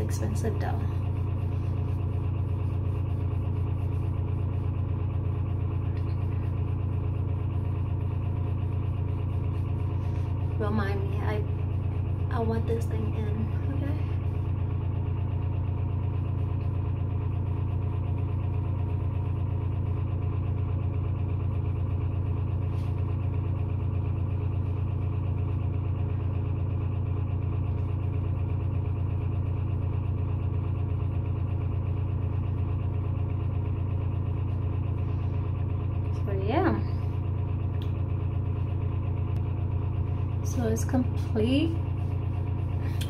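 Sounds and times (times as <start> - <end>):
low motor hum: 0.0 - 43.0.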